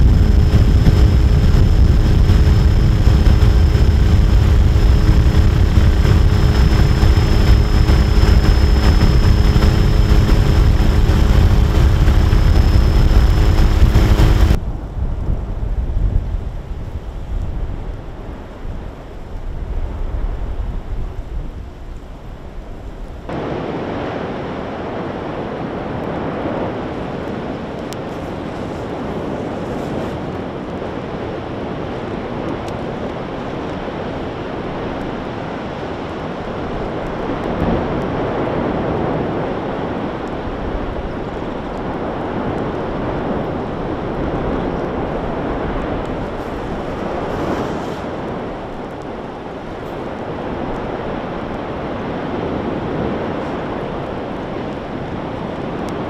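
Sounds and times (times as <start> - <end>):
lava fountaining and gas venting: 0.0 - 56.0.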